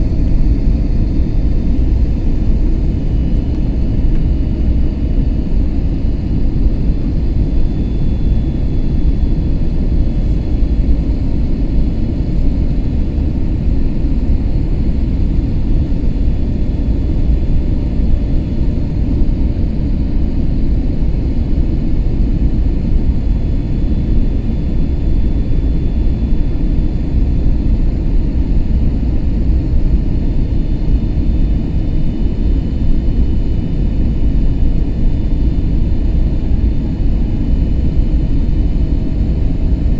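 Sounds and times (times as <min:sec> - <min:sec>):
aircraft engines and airflow rumble: 0:00.0 - 0:39.9.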